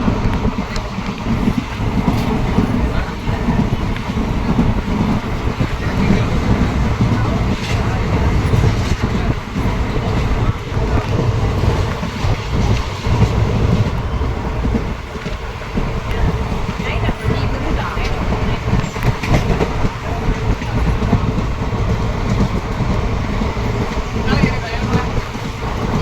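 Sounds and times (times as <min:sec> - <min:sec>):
carriage and wheels rattling: 0:00.0 - 0:26.0
train rumbling: 0:00.0 - 0:26.0.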